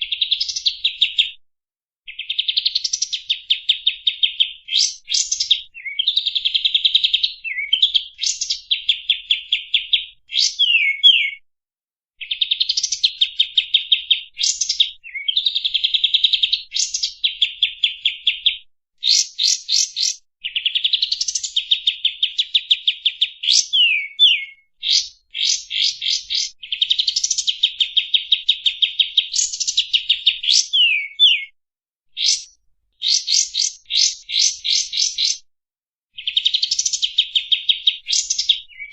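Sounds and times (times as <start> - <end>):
songbird trills and whistles: 2.1 - 11.4, 12.2 - 35.4, 36.2 - 38.9.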